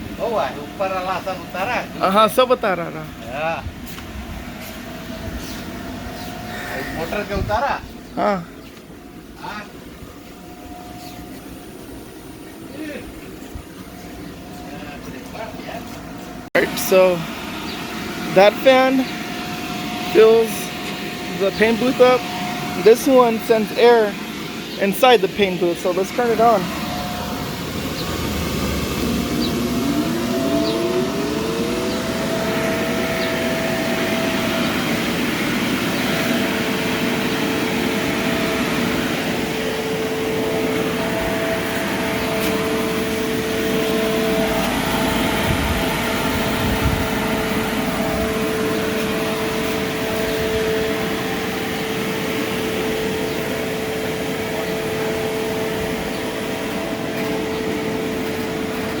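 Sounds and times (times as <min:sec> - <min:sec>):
fan motor whine and hum: 0:00.0 - 0:59.0.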